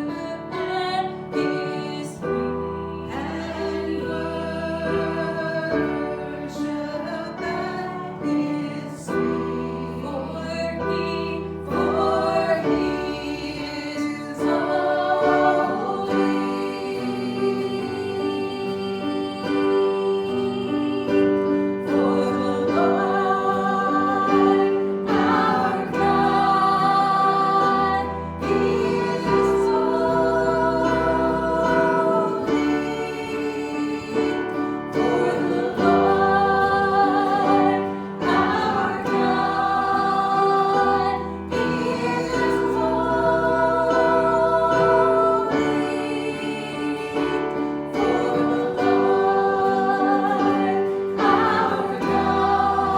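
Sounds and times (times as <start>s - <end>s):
congregation singing a hymn: 0.0s - 52.9s.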